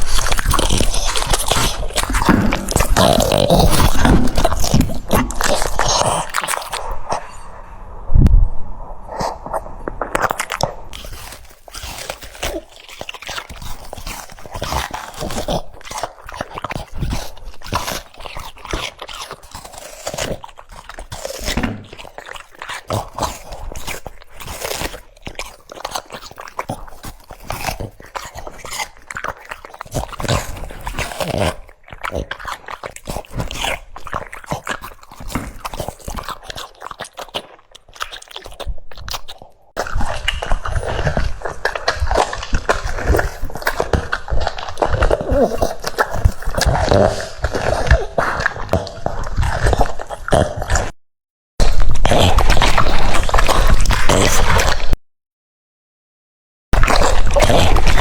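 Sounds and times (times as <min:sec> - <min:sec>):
dog crunching cucumber: 0:00.0 - 0:07.4, 0:09.1 - 0:51.0, 0:51.6 - 0:55.0, 0:56.8 - 0:58.0.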